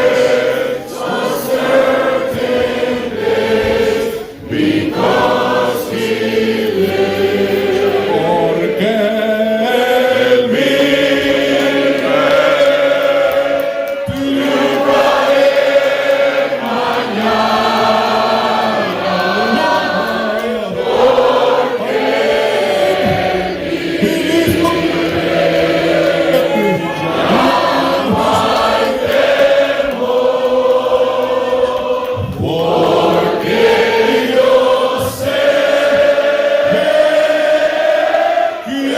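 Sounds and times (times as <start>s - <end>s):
group of voices singing a hymn: 0.0s - 38.9s.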